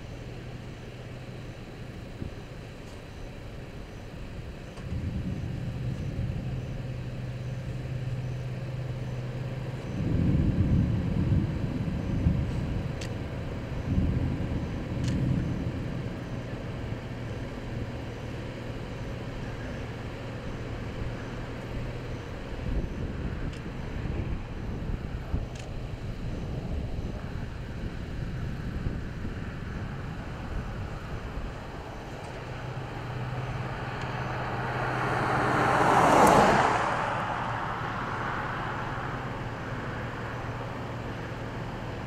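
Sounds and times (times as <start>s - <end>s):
low rumbles: 0.0s - 42.0s
vehicle engine humming: 0.0s - 42.0s.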